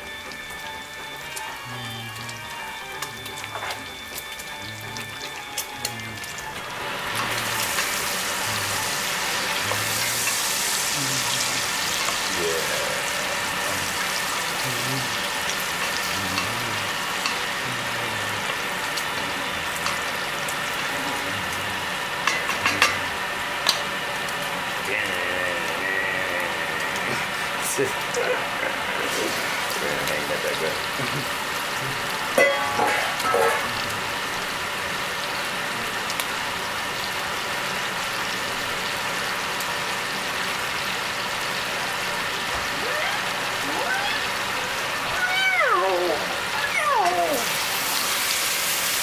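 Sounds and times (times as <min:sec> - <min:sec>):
bacon sizzling in a pot: 0:00.0 - 0:49.0.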